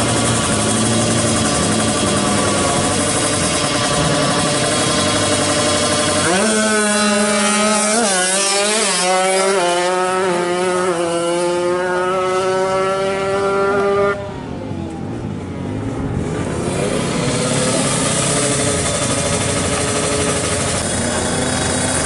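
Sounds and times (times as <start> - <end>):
motorcycle engine revving hard: 0.0 - 14.5, 16.2 - 22.0.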